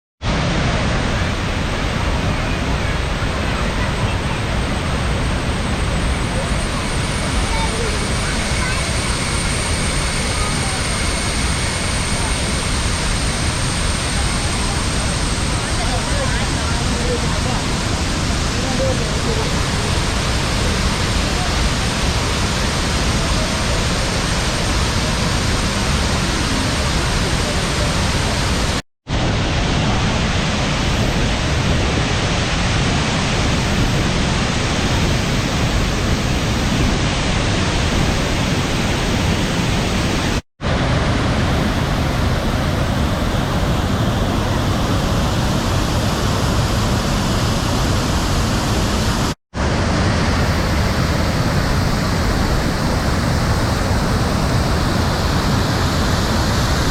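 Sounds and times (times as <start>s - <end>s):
waterfall rushing over rock: 0.2s - 56.9s.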